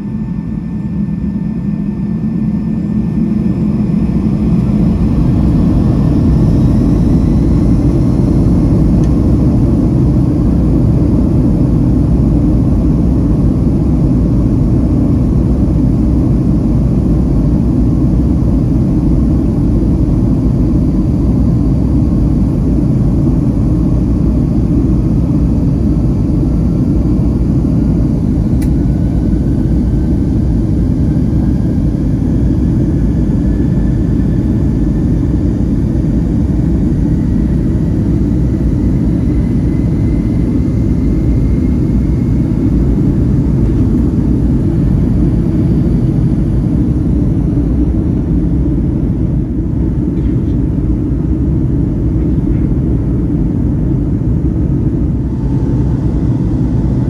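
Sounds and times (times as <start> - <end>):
faint whine: 0.0 - 57.0
jet engines rumbling in cabin: 0.0 - 57.0.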